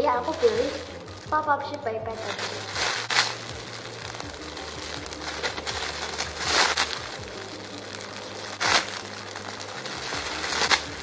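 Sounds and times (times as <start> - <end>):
background music: 0.0 - 11.0
plastic packaging crinkling: 0.0 - 11.0.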